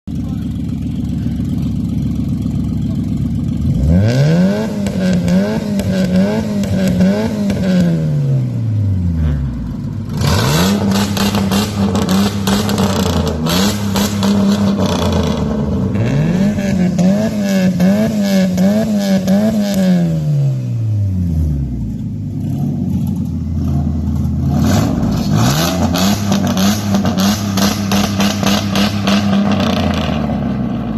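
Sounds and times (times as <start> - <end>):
car engine idling: 0.1 - 30.9
car engine revving: 0.2 - 30.9.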